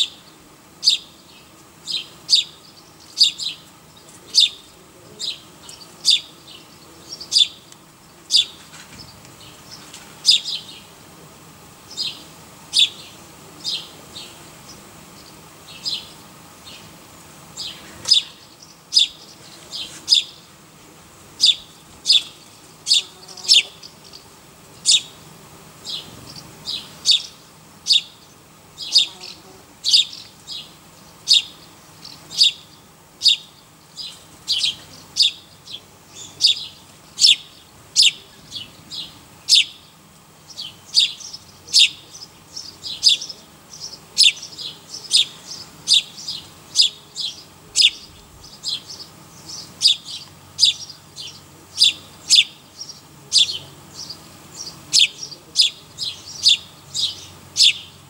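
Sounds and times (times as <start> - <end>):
bird chirping: 0.0 - 11.0, 11.9 - 16.9, 17.6 - 20.5, 21.4 - 25.2, 25.8 - 58.0.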